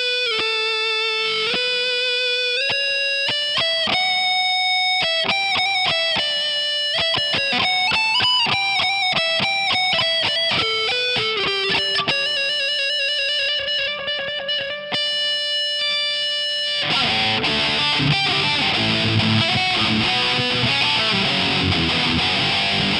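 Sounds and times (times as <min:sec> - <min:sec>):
clean electric guitar melody: 0:00.0 - 0:22.9
distorted guitar riffing: 0:00.0 - 0:22.9.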